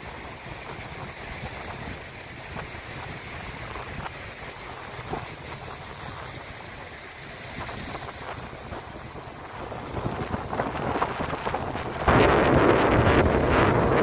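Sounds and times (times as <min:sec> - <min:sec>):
ocean surf: 0:00.0 - 0:14.0
wind rumbling on microphone: 0:00.0 - 0:14.0.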